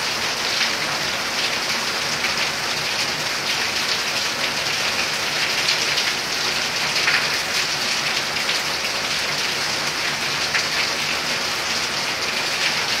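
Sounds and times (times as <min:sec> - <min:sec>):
heavy rain on tile roofs: 0:00.0 - 0:13.0.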